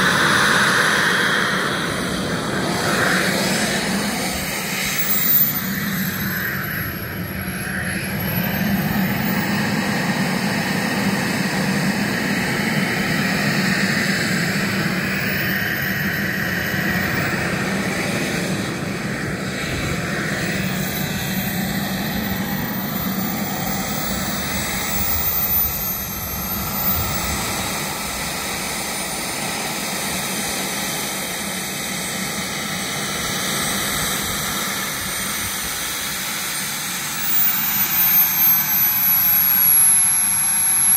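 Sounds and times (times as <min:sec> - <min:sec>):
jet turbines rushing and whining: 0:00.0 - 0:40.9.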